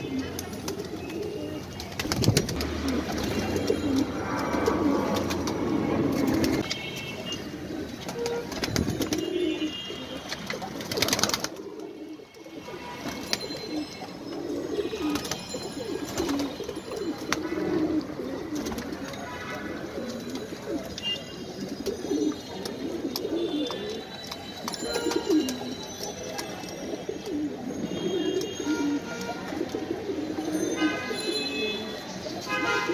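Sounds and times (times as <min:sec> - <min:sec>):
pigeons cooing: 0:00.0 - 0:06.6, 0:07.5 - 0:12.9, 0:13.5 - 0:24.2, 0:24.8 - 0:25.9, 0:26.6 - 0:32.0.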